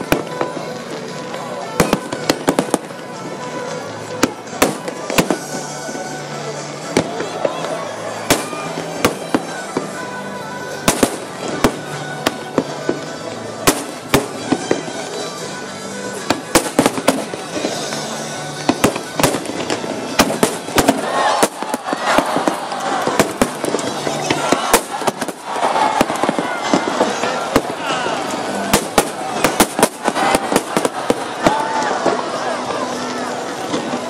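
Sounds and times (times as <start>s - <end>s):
fireworks bursting: 0.0s - 34.0s
rapid crackling fireworks: 0.0s - 34.0s.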